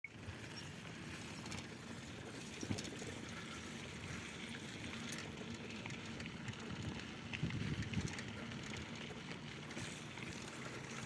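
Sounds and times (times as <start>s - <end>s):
bicycle tyres rumbling: 0.1s - 11.0s
light bicycle clicks: 0.3s - 11.0s.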